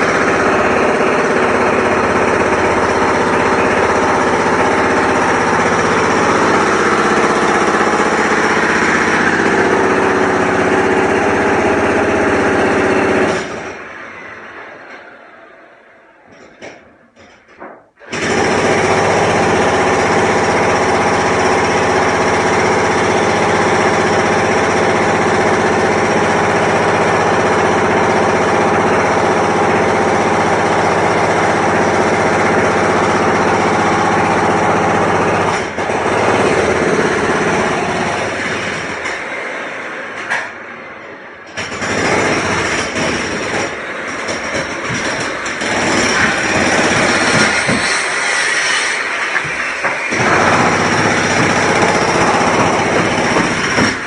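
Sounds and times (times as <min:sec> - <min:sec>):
construction machinery clatter: 0:00.0 - 0:54.0.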